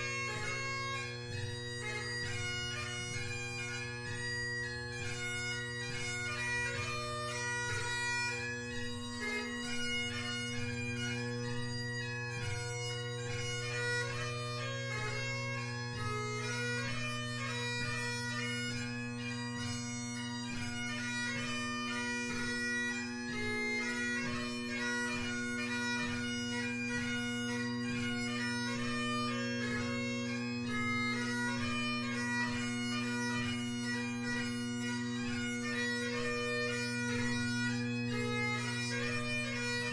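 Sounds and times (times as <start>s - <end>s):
bagpipe chanter melody: 0.0s - 39.9s
bagpipe drone: 0.0s - 39.9s.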